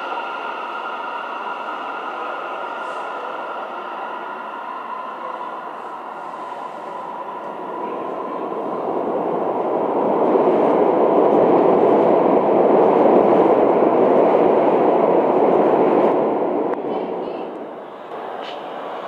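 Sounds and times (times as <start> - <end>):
subway train rumbling in tunnel: 0.0 - 19.0.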